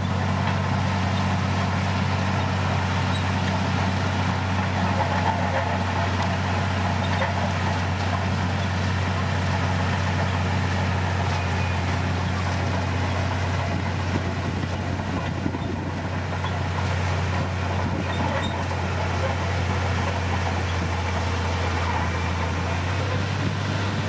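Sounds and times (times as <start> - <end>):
bulldozer diesel engine: 0.0 - 24.0.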